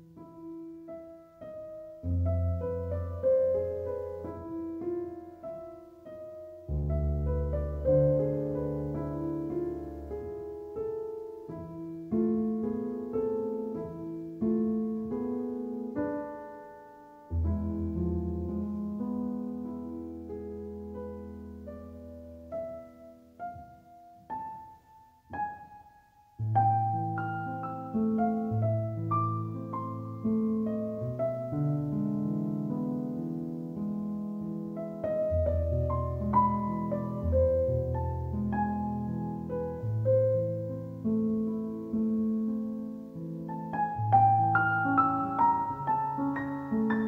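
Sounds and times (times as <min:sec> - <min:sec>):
calm slow piano music: 0:00.0 - 0:47.0.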